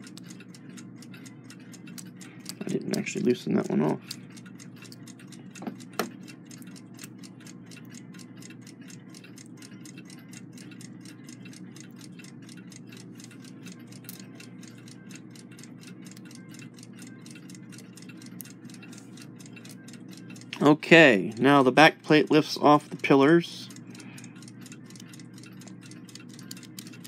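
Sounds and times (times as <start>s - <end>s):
mechanical clock ticking: 0.0s - 27.0s.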